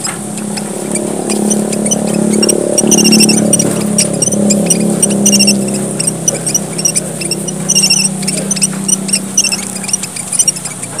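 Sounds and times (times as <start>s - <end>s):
faint low hum: 0.0s - 11.0s
finches chattering in high chirps: 0.0s - 11.0s.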